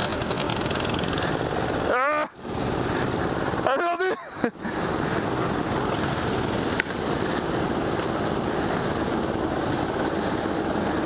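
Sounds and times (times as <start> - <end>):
go-kart engine and rolling noise: 0.0 - 11.0.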